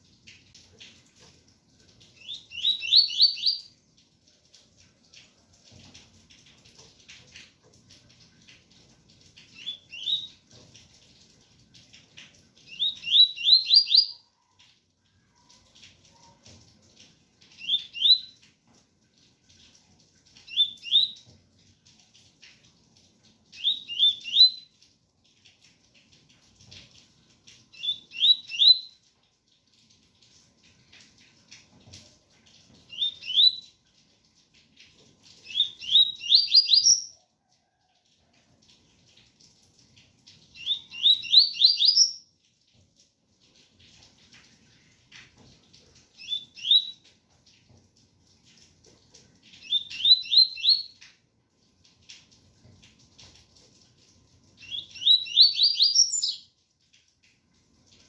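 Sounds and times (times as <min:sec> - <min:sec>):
faint rain: 0:00.0 - 0:58.0.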